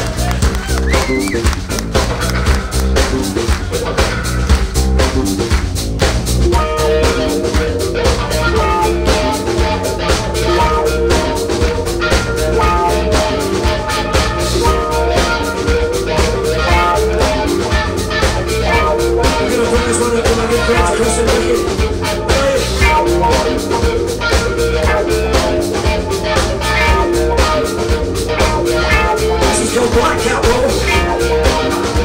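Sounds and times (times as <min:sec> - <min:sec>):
drum kit beat: 0:00.0 - 0:32.0
electric bass: 0:00.0 - 0:32.0
electric guitars: 0:00.0 - 0:32.0.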